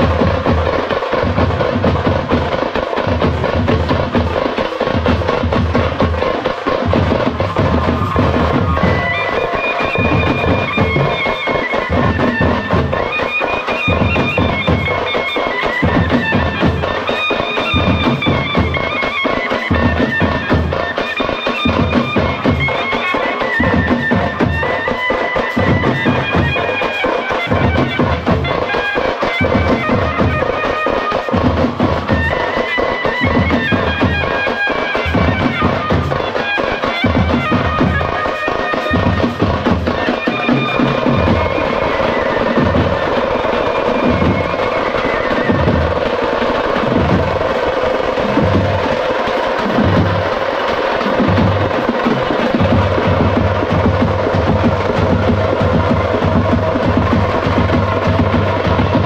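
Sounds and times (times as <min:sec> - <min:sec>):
reedy wind instrument melody: 0:00.0 - 0:59.0
steady drum beat: 0:00.0 - 0:59.0.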